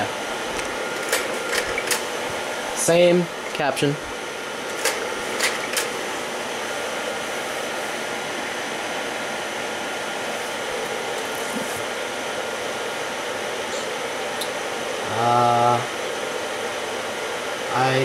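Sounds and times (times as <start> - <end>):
slide projector fan: 0.0 - 18.0.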